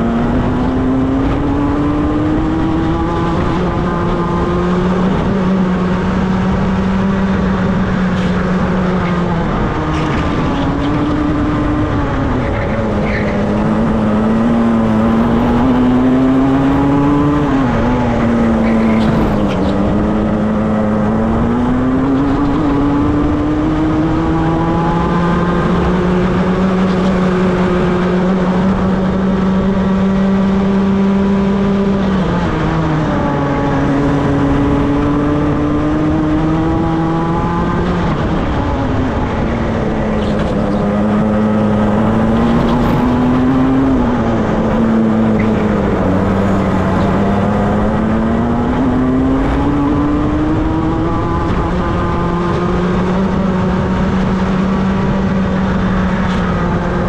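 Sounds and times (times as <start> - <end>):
kart engine revving: 0.0 - 57.0
wind rush: 0.0 - 57.0.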